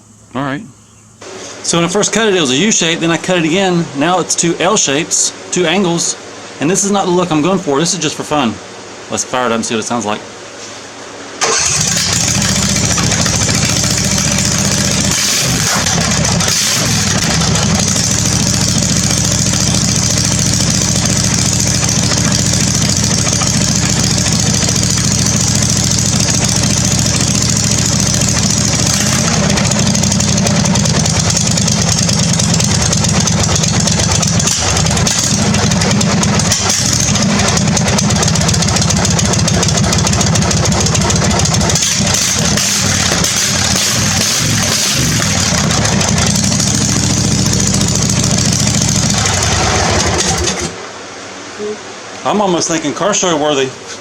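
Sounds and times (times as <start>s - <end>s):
mower engine running: 1.2s - 9.1s, 11.2s - 51.3s.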